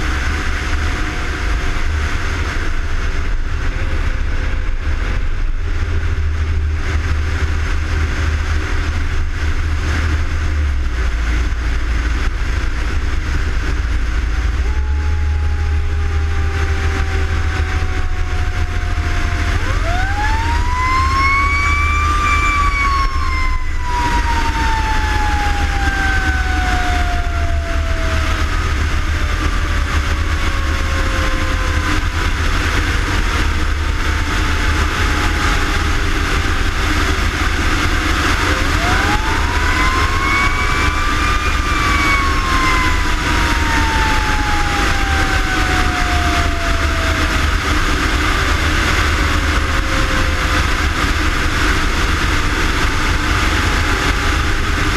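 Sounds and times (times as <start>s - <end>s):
fire engine siren: 0.0s - 54.9s
heavy vehicle engine rumble: 0.0s - 54.9s.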